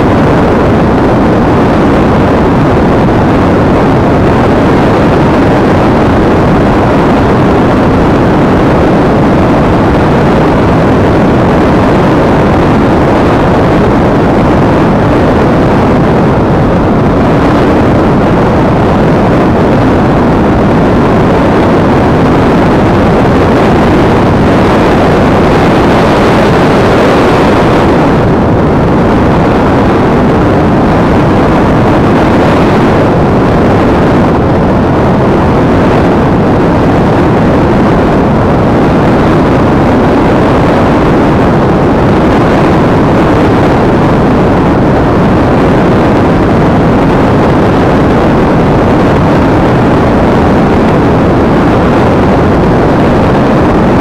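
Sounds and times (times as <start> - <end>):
wind rushing over camera: 0.0 - 54.0.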